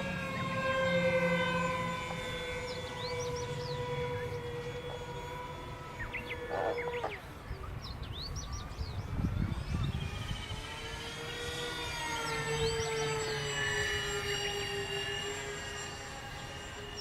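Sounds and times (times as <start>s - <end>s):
electric motors whining: 0.0s - 17.0s
low wind rumble: 0.0s - 17.0s
birds chirping: 0.1s - 17.0s.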